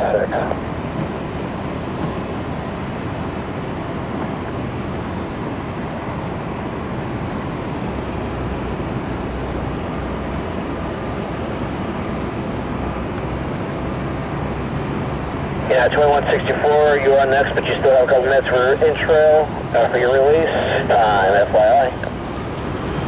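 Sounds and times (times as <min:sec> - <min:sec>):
jet engines at takeoff thrust: 0:00.0 - 0:23.0.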